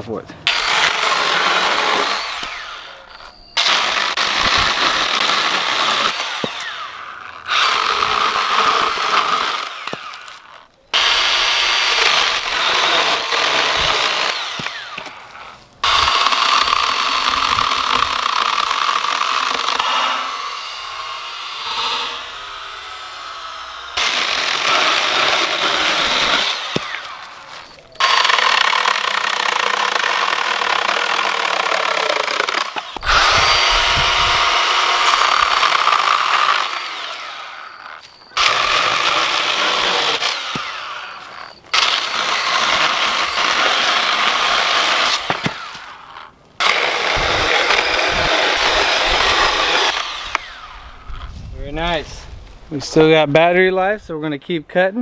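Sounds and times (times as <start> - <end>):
pruning saw cutting wood: 0.4 - 52.0.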